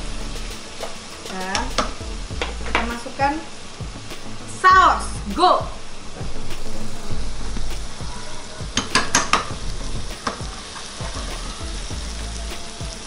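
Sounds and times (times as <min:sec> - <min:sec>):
sauce sizzling in a pan: 0:00.0 - 0:13.0.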